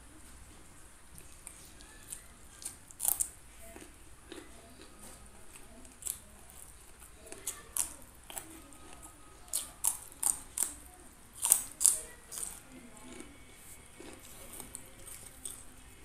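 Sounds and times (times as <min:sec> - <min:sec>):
crunching raw green beans: 0:01.1 - 0:16.0.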